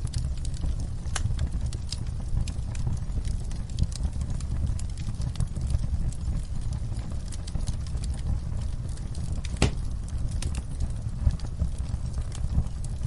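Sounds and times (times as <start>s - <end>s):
crackles and pops of burning logs: 0.0s - 13.0s
rumble of flames: 0.0s - 13.0s.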